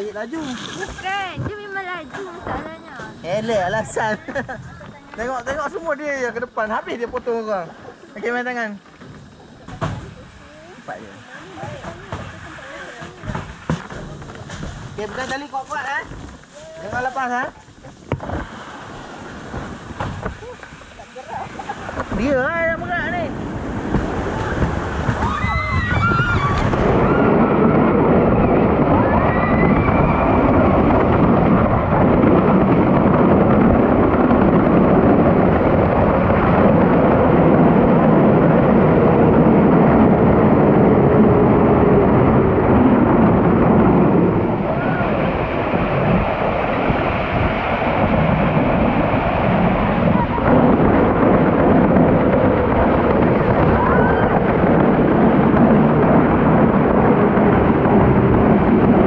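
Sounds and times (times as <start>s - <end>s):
wind on microphone: 9.0s - 59.0s
tube rushing over plastic mats: 11.6s - 59.0s.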